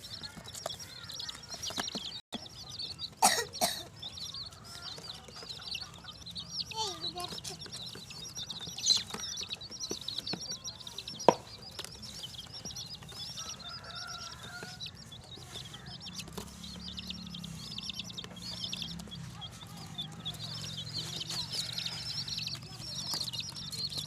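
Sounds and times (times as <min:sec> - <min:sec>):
baby chicks peeping: 0:00.0 - 0:24.0.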